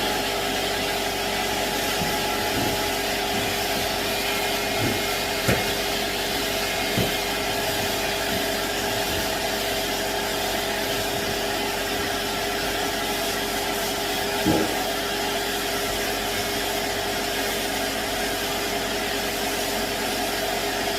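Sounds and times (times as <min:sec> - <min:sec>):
vacuum running: 0:00.0 - 0:20.9.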